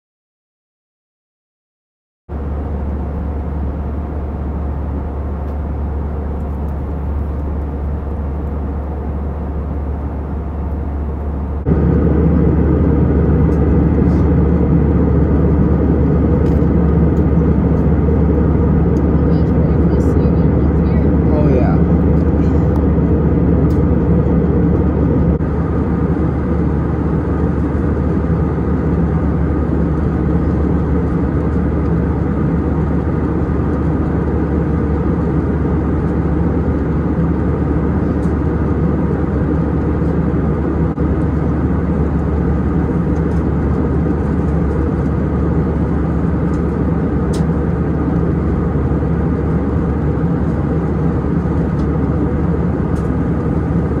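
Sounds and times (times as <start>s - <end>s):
jet cabin low rumble: 2.3s - 54.0s.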